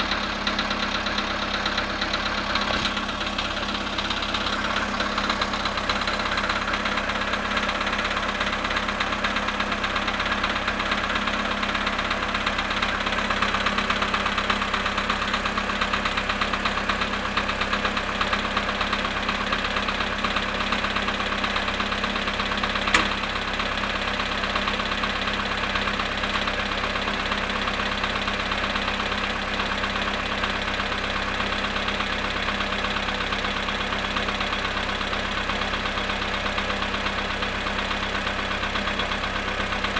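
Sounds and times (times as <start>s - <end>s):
car engine idling with knocking: 0.0s - 39.9s.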